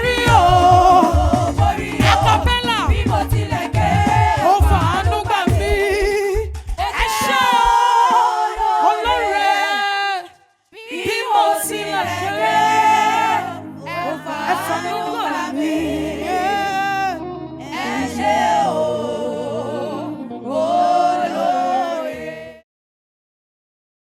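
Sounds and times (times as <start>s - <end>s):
person singing gospel: 0.0s - 22.6s.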